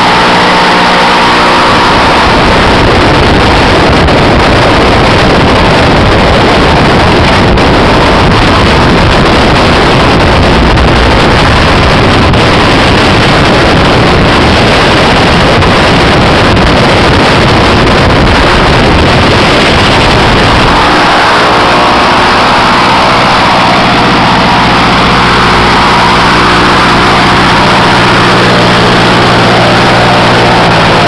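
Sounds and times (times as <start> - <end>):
engine running steadily: 0.0 - 31.0
wind noise on microphone: 0.0 - 31.0.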